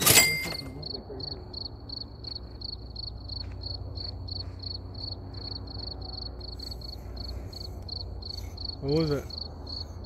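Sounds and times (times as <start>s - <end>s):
cricket chirping: 0.0s - 10.0s.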